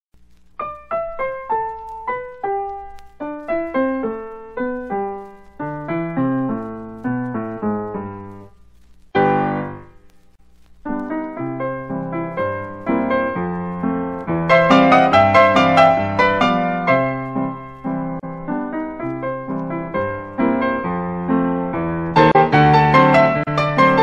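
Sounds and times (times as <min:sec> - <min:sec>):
solo piano music: 0:00.6 - 0:08.5, 0:09.2 - 0:10.0, 0:10.8 - 0:24.0.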